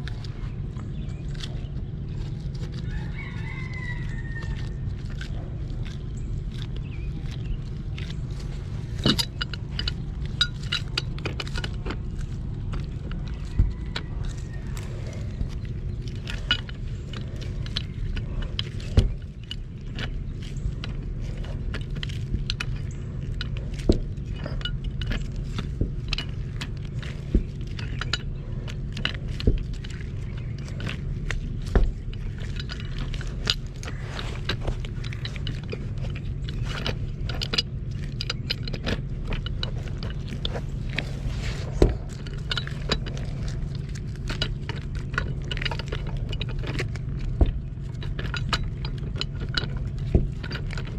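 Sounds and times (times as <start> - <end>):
metal tools and pipe fittings clinking: 0.0 - 50.9
steady low hum: 0.0 - 50.9.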